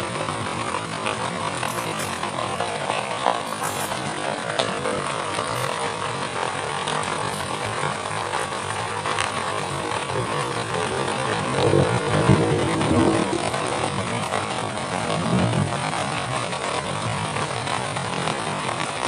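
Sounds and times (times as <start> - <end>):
heavy rain falling: 0.0 - 19.0
raindrop taps: 0.0 - 19.0.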